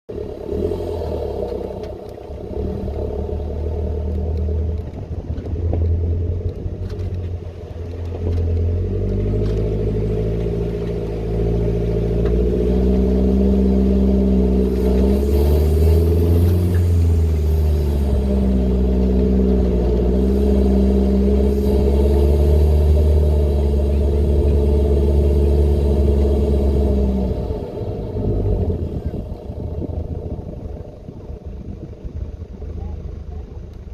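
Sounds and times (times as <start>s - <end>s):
engine droning under load: 0.0s - 33.9s.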